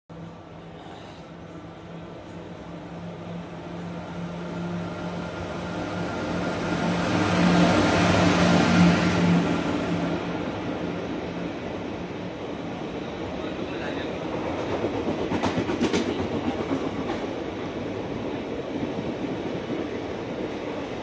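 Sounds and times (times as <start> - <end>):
electric train passing at speed: 0.1 - 21.0.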